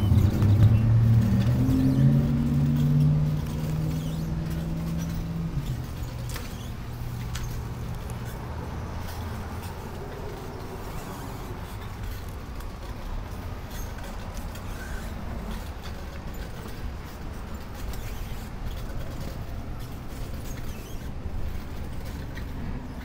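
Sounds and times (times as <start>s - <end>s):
riding noise rumble: 0.0s - 23.0s.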